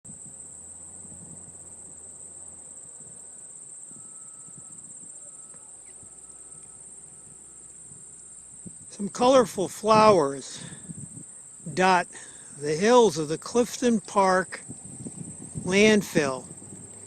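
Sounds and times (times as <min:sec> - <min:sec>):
crickets trilling: 0:00.1 - 0:17.0.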